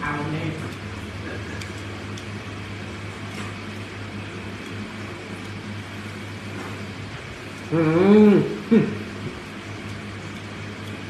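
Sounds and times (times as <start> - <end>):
low machine hum: 0.0 - 11.0
room noise: 0.0 - 11.0.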